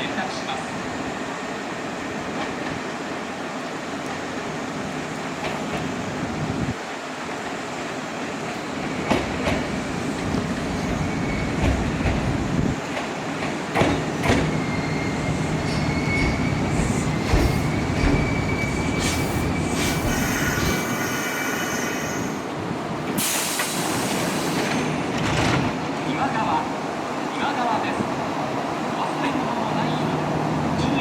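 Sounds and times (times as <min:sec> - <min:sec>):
train rolling on rails: 0:00.0 - 0:31.0.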